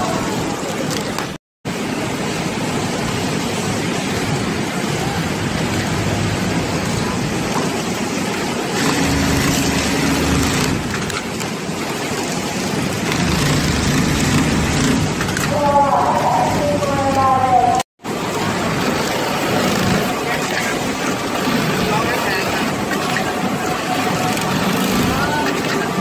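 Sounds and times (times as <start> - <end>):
loud steady hum: 1.7 - 11.2, 12.0 - 26.0.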